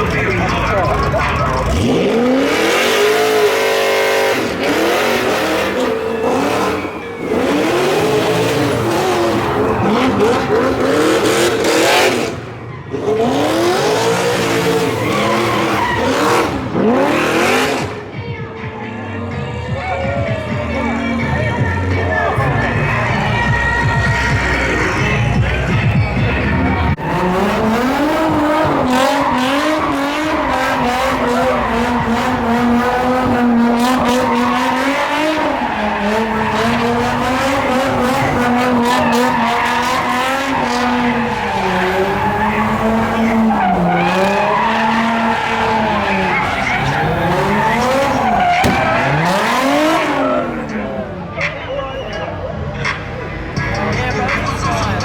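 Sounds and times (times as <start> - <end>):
car engine revving: 0.0 - 18.2, 20.1 - 51.8
tires squealing: 0.0 - 55.0.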